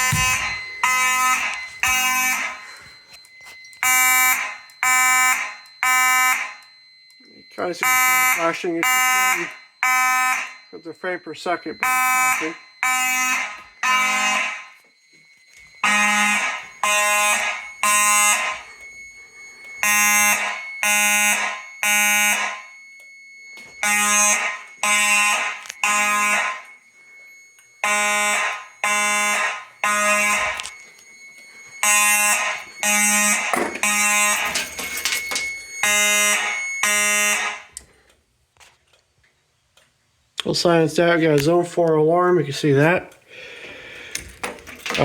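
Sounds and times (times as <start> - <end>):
fire alarm horns buzzing: 0.0 - 39.1, 40.5 - 45.0.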